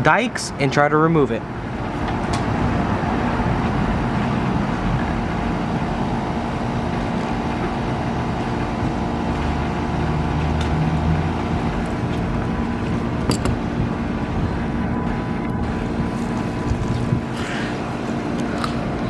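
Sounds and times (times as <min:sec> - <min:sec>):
traffic hum: 0:00.0 - 0:19.0.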